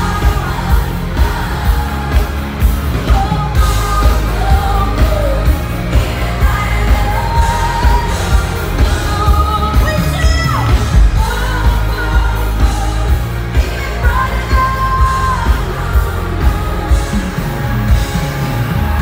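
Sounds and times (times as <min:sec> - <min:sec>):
band with heavy steady beat: 0:00.0 - 0:19.0.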